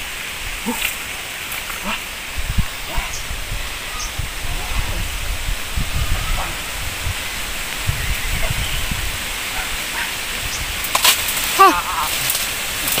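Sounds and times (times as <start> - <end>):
outdoor hiss: 0.0 - 13.0
wind gusts on microphone: 0.0 - 13.0.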